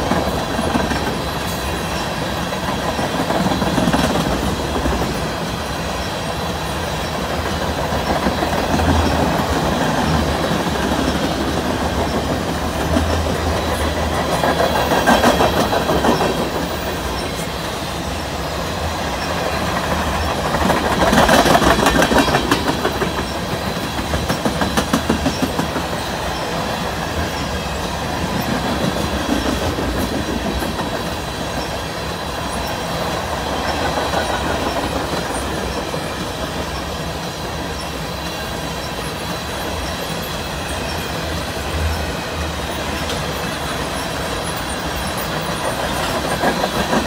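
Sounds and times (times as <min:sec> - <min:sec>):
clickety-clack over rail joints: 0:00.0 - 0:47.0
faint high wheel squeal: 0:00.0 - 0:47.0
train wheels rumbling on rail: 0:00.0 - 0:47.0.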